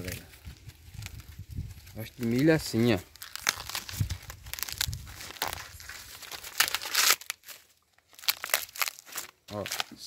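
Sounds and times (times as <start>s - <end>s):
corn husks crackling and tearing: 0.0s - 10.0s.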